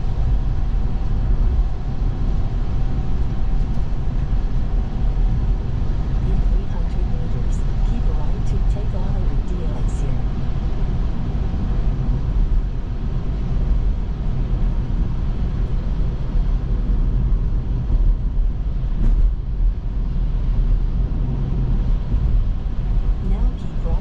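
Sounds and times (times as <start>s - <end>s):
road and tyre rumble: 0.0s - 24.0s.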